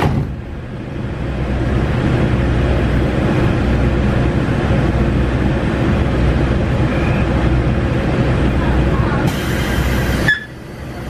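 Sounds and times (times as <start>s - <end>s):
train diesel engine drone: 0.0s - 11.0s.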